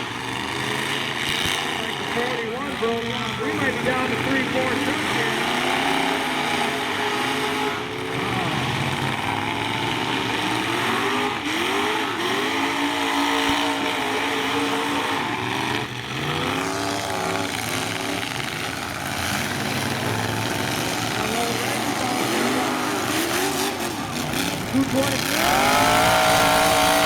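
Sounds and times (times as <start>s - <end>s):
pickup truck engines revving: 0.0s - 27.0s.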